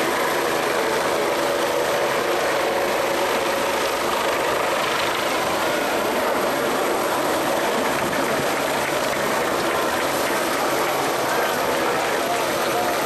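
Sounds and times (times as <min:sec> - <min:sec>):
helicopters flying past: 0:00.0 - 0:13.0.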